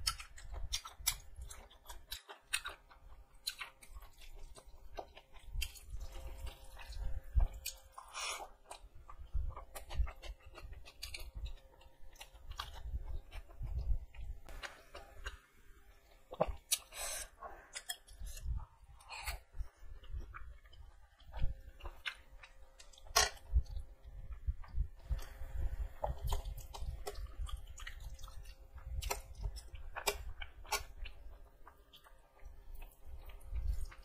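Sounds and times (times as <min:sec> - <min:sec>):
wet chewing and mouth smacks: 0:00.0 - 0:15.4, 0:16.0 - 0:34.0.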